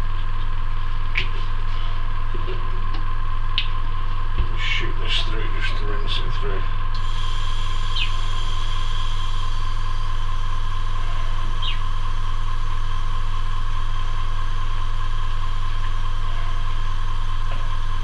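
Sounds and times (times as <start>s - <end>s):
compressor humming and whining: 0.0s - 18.0s.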